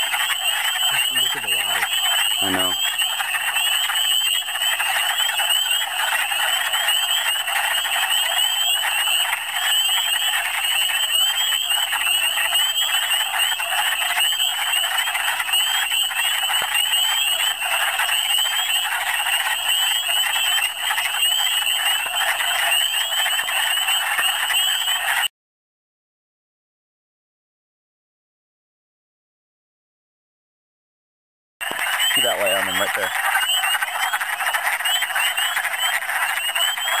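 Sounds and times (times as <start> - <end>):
frogs clucking in chorus: 0.0 - 25.3, 31.6 - 37.0.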